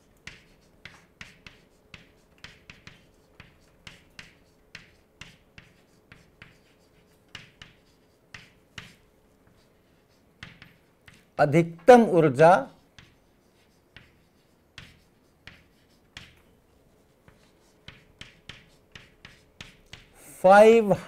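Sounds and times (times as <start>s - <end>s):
chalk tapping on blackboard: 0.0s - 12.0s, 12.7s - 20.2s.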